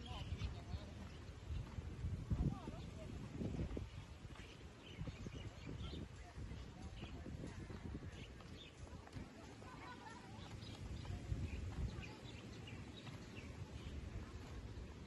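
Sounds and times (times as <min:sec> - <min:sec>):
wind rumble: 0:00.0 - 0:15.0.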